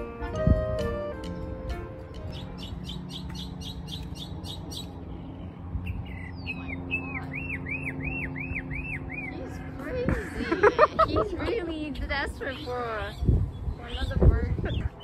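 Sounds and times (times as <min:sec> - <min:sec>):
songbird singing: 0:00.0 - 0:09.9, 0:12.0 - 0:15.0.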